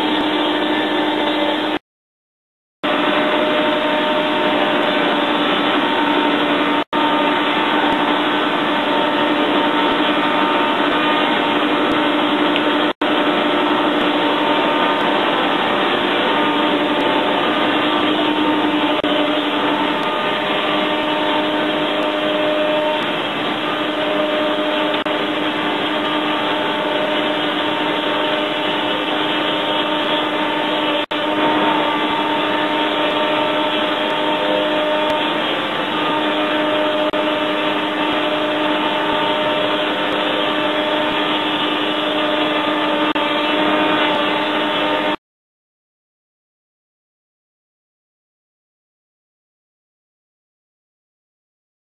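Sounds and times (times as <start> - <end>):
woodworking machine drone: 0.0 - 1.8, 2.8 - 45.2.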